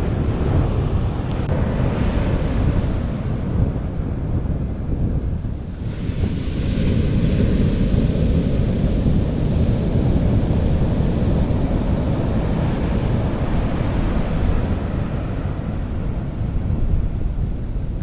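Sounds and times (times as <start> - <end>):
waves washing onto beach: 0.0 - 18.0
wind rumble on microphone: 0.0 - 18.0.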